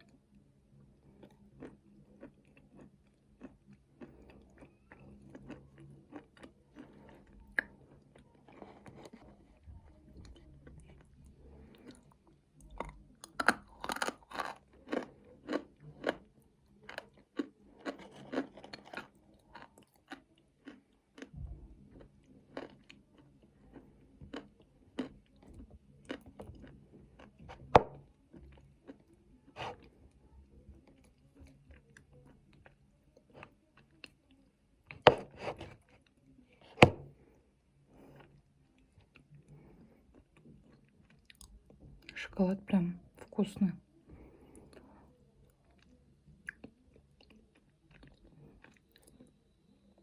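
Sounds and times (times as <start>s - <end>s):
chewing crunchy nuts: 0.0s - 42.2s, 44.0s - 50.0s.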